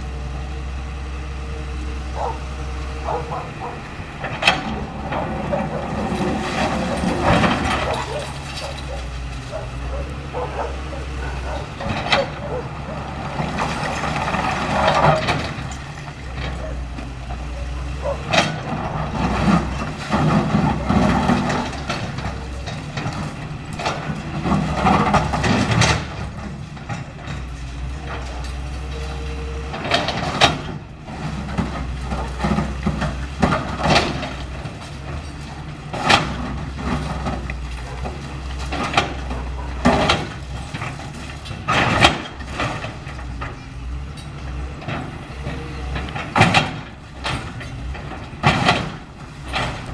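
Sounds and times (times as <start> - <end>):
excavator diesel engine running: 0.0 - 49.9
debris cracking and crunching: 4.2 - 28.9, 29.8 - 49.9.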